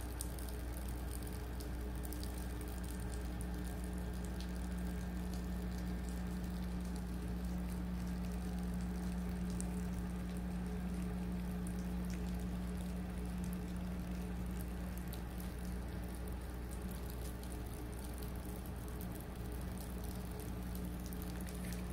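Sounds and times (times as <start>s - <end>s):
faint ticks and crackles: 0.0s - 21.9s
steady low hum: 0.0s - 21.9s.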